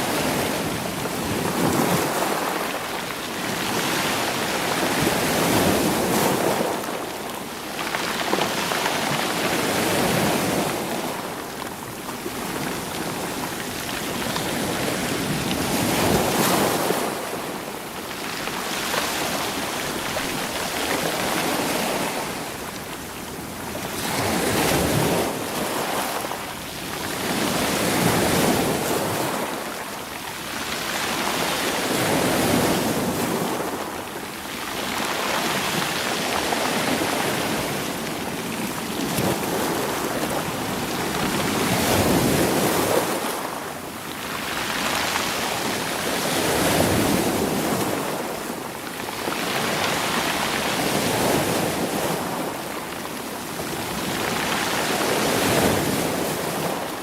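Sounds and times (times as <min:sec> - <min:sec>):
waves washing over rocky shore: 0:00.0 - 0:57.0.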